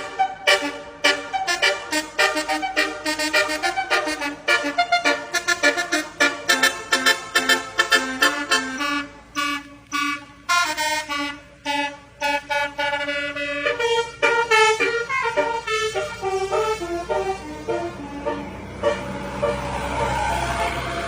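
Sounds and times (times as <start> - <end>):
bus horn playing a tune: 0.0 - 21.0.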